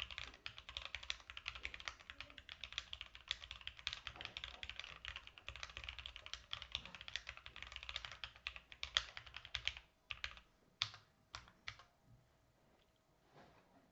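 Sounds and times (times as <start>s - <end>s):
mechanical keyboard typing: 0.0s - 11.9s.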